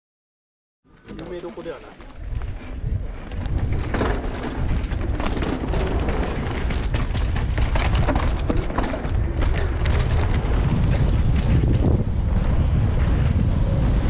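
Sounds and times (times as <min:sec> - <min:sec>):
bike clattering over bumps: 0:01.1 - 0:14.0
wind buffeting microphone: 0:01.1 - 0:14.0.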